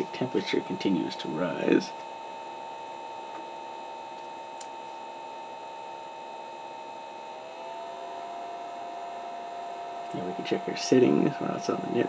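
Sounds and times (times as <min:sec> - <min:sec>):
cooling fan whirring: 0:00.0 - 0:12.0.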